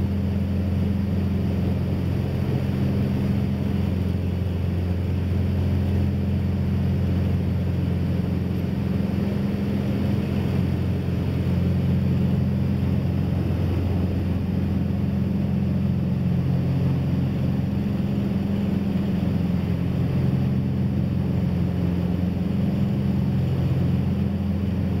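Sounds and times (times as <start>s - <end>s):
aircraft engines droning in cabin: 0.0s - 25.0s.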